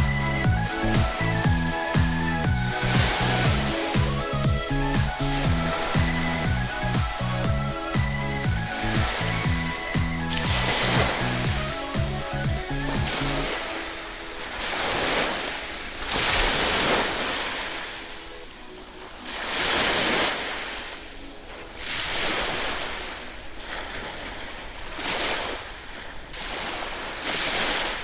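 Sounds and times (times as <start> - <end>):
faint background music: 0.0 - 26.5
waves breaking on beach: 0.0 - 28.0.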